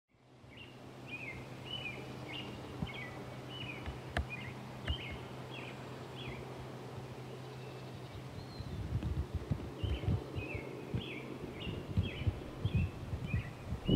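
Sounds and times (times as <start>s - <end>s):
outdoor background noise: 0.1s - 13.9s
steady low hum: 0.1s - 13.9s
bird chirping: 0.5s - 8.9s, 9.8s - 13.9s.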